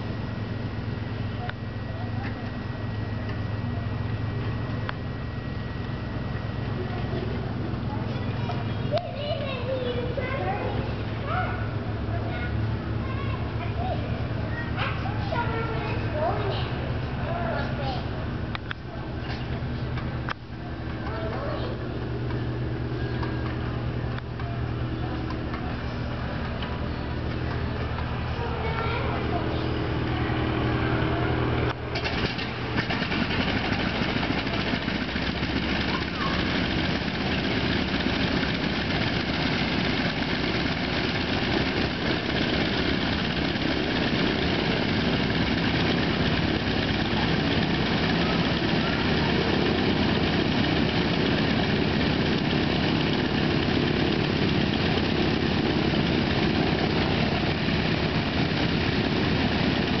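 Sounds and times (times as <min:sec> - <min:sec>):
radial engines idling: 0:00.0 - 1:00.0.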